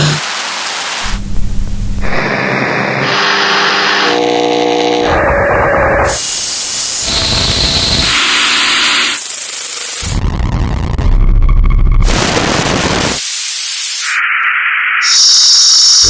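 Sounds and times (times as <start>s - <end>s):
synthetic noise samples: 0.0s - 16.0s.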